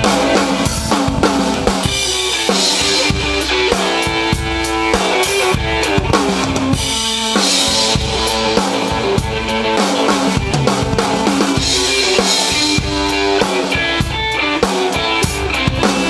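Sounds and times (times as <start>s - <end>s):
drum kit groove: 0.0s - 16.0s
electric guitar notes: 0.0s - 16.0s.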